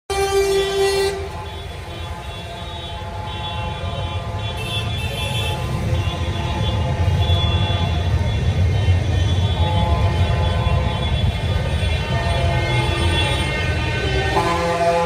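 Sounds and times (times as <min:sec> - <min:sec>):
vehicle horn sounding: 0:00.1 - 0:15.0
tractor and truck engines rumbling: 0:00.2 - 0:15.0.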